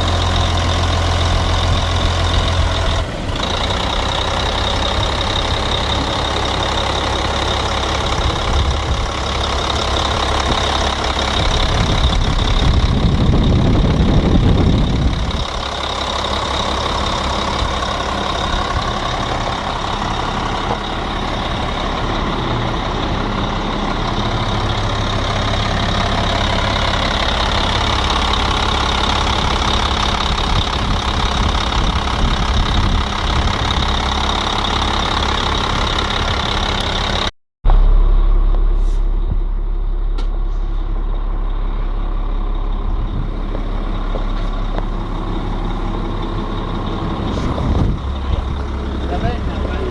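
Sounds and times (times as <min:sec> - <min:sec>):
wheel loader diesel engine running: 0:00.0 - 0:49.9.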